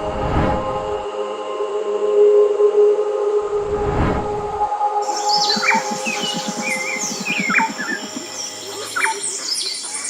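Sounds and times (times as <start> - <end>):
background music with long held tones: 0.0 - 10.0
choir-like chanting: 0.0 - 10.0.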